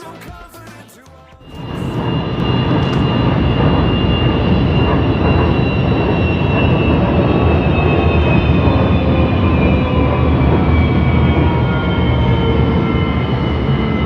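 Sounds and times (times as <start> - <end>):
high whine: 1.4 - 14.0
train rumbling: 1.4 - 14.0.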